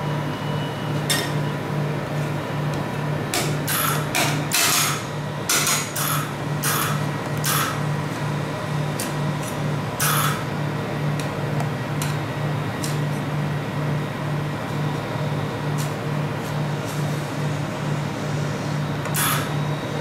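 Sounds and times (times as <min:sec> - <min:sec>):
pulsing refrigeration hum: 0:00.0 - 0:20.0.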